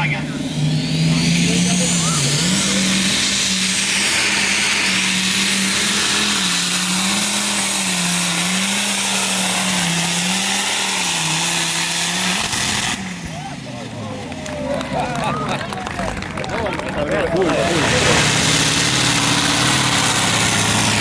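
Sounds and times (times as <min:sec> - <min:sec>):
tractor engine running flat out: 0:00.0 - 0:21.0.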